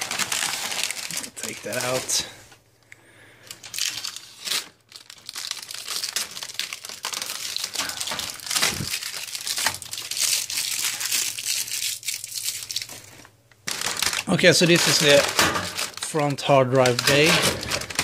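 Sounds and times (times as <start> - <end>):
plastic bags and cardboard rustling: 0.0 - 2.6, 3.4 - 18.0.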